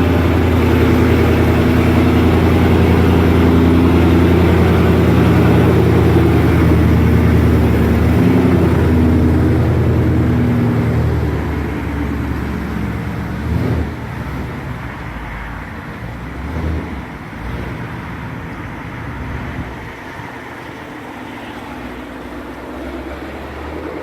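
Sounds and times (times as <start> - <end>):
car engine running: 0.0 - 24.0
road noise: 0.0 - 24.0.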